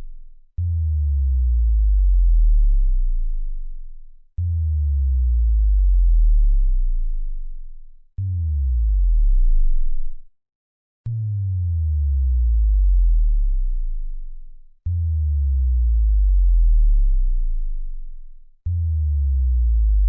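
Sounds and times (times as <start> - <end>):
sub-bass tone sliding downward: 0.6 - 3.6, 4.4 - 7.5, 8.2 - 10.3, 11.1 - 20.0.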